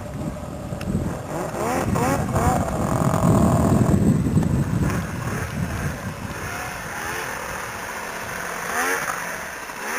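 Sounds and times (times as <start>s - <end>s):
snowmobile engine revving: 1.0s - 9.9s.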